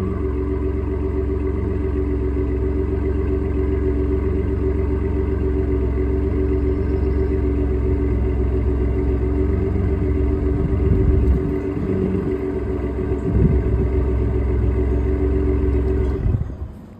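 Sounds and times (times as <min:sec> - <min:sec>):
engine droning: 0:00.0 - 0:16.9.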